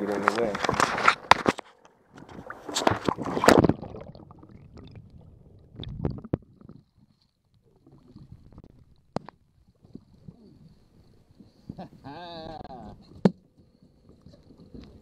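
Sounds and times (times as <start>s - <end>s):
muffled underwater sloshing: 0.0s - 15.0s.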